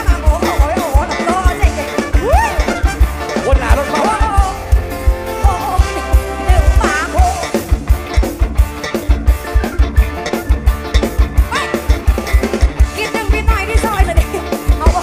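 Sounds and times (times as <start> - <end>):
loud upbeat dance music: 0.0 - 7.7, 9.4 - 15.0.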